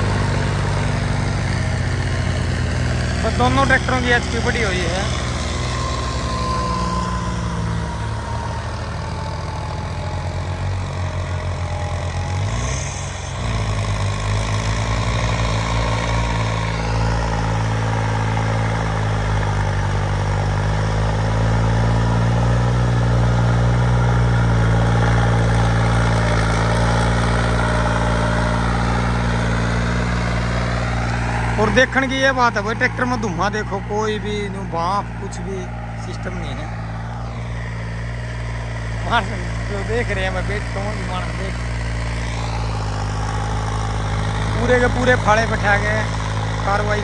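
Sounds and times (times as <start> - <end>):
tractor diesel engines running: 0.0 - 47.0.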